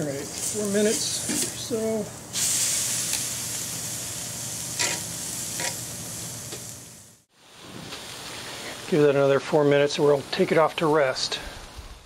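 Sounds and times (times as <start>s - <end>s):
steak sizzling on grill: 0.0s - 12.0s.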